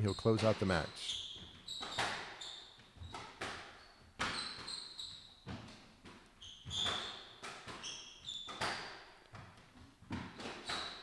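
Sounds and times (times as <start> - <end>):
shoes squeaking on wooden floor: 0.0 - 11.0
ball hitting court walls: 0.1 - 11.0
squash ball smacking rackets: 0.4 - 11.0.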